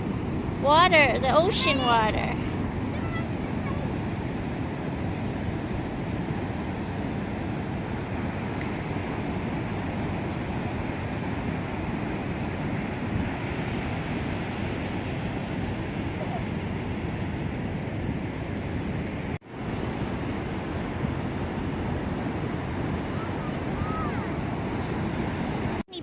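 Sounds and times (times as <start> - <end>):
wind on microphone: 0.0 - 25.8
ocean surf washing on shore: 0.0 - 26.0.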